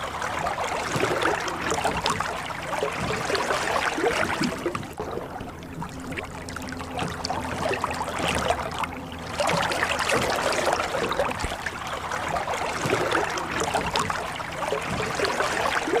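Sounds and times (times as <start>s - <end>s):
oars splashing: 0.0s - 16.0s
water dripping and trickling: 0.0s - 16.0s.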